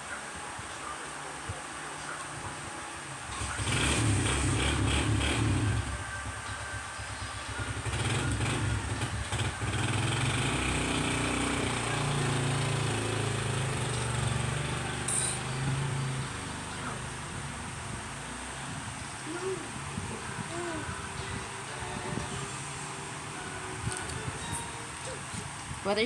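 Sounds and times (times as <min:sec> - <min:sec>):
engine humming: 0:00.8 - 0:26.0.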